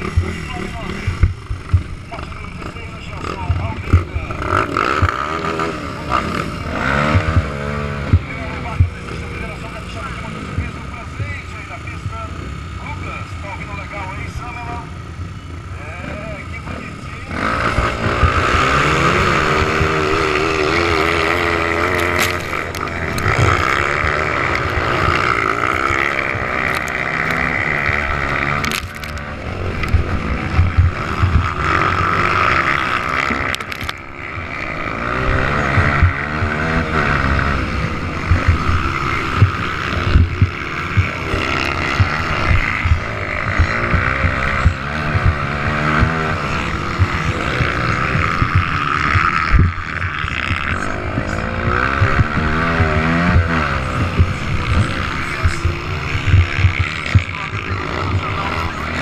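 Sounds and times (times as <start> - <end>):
motocross motorcycle engines revving: 0.0 - 59.0.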